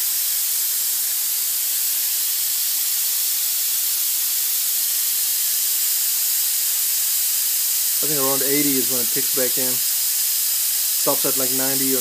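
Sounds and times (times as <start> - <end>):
compressed air hissing from valve: 0.0 - 12.0.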